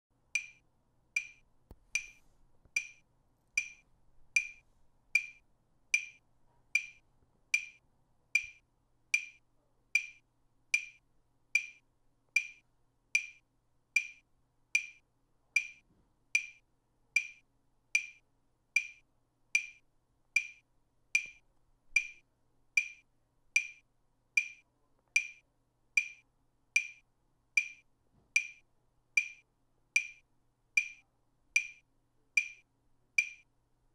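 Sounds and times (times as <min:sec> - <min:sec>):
metronome ticking: 0:00.2 - 0:03.0, 0:03.6 - 0:09.4, 0:10.0 - 0:16.6, 0:17.2 - 0:22.2, 0:22.8 - 0:33.5.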